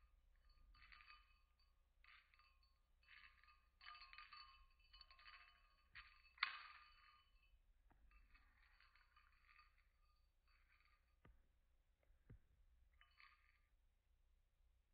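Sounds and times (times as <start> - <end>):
faint metallic jingling: 0.0 - 11.5, 12.2 - 13.9.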